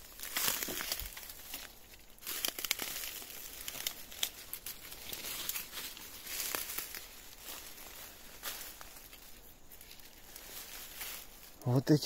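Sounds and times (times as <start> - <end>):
undergrowth rustling and crackling: 0.0 - 12.0.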